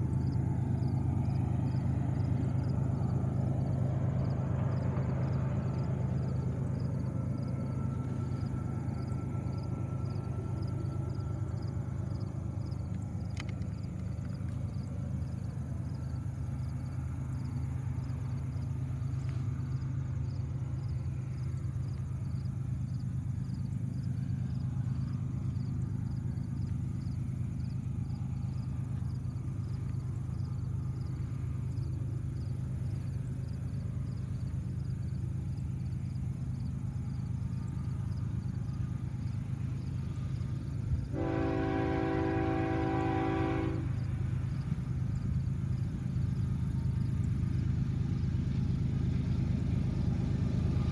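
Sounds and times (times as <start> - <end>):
constant low rumble: 0.0 - 50.9
insects chirping: 0.0 - 50.9.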